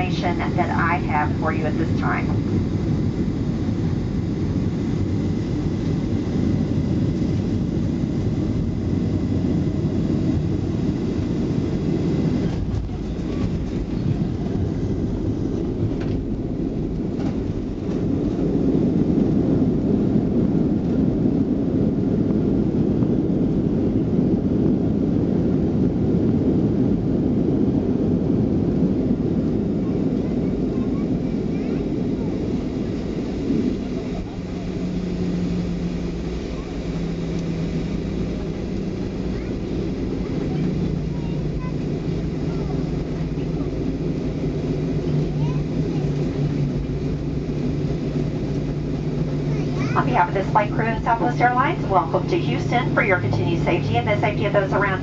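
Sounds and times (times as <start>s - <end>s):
low rumble of engines and wheels: 0.0s - 55.0s.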